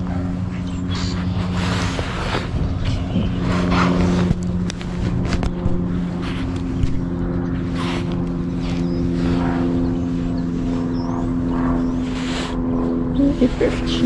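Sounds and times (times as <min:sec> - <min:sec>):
motor droning steadily: 0:00.0 - 0:14.0.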